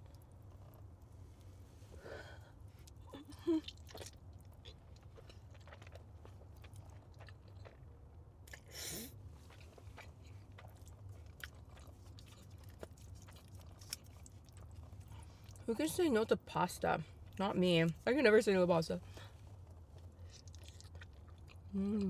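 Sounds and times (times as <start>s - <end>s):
chewing spaghetti: 0.0s - 1.5s, 2.6s - 16.4s, 19.1s - 22.0s
low steady hum: 0.0s - 22.0s.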